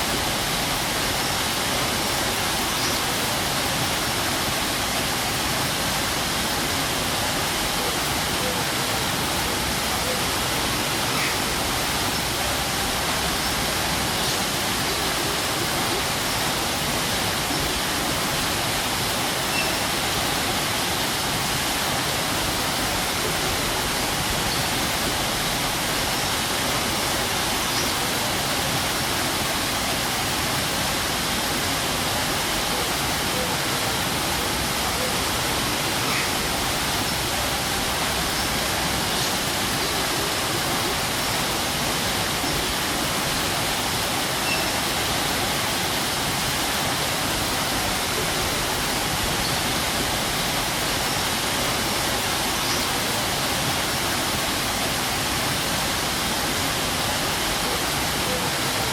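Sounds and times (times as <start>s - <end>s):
waterfall roaring: 0.0s - 58.9s.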